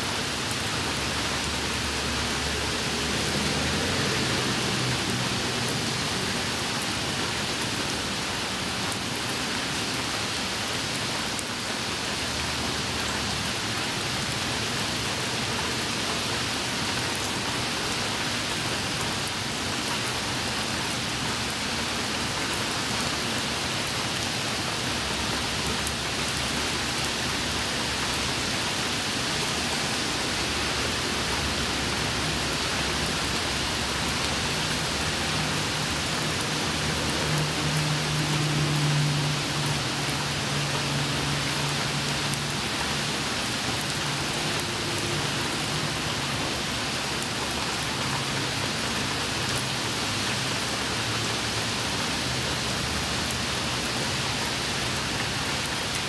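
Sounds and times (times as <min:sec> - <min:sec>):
rain falling on pavement: 0:00.0 - 0:56.0.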